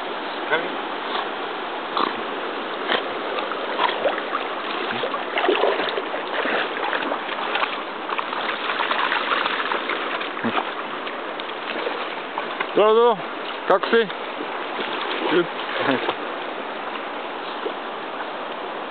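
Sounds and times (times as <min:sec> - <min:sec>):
water rushing and splashing: 0:00.0 - 0:18.9.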